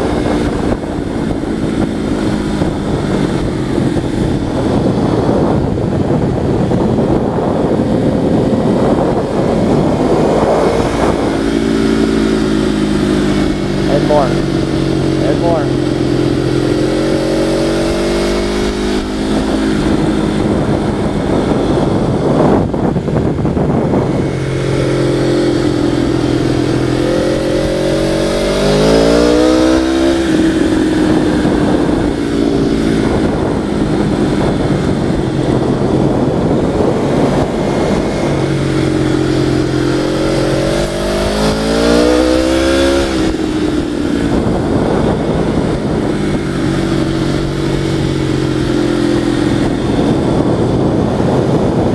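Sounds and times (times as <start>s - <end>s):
vehicle engine running: 0.0s - 51.9s.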